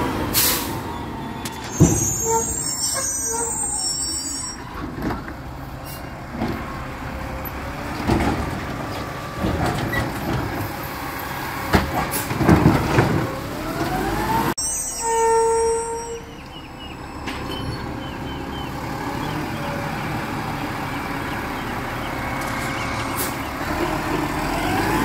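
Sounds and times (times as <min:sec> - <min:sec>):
garbage truck engine rumble: 0:00.0 - 0:25.0.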